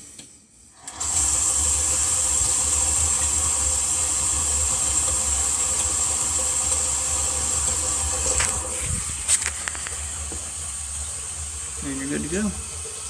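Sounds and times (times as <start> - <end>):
tap water running into sink: 0.9 - 13.0.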